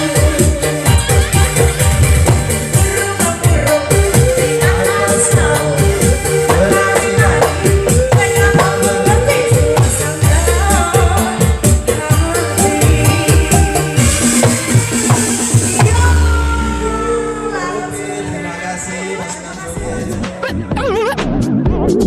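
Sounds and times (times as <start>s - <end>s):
heavy fast bass drum: 0.0s - 18.6s, 19.7s - 22.0s
loud music with singing: 0.0s - 22.0s.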